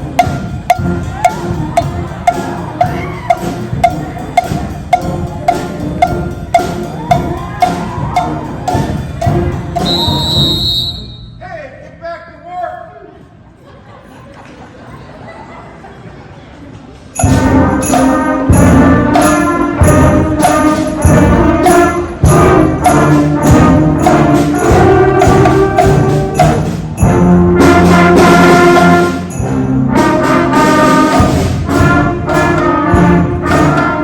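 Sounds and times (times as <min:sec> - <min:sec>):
percussion strokes: 0:00.0 - 0:11.4, 0:17.2 - 0:34.0
school band playing: 0:00.0 - 0:11.4, 0:17.2 - 0:34.0.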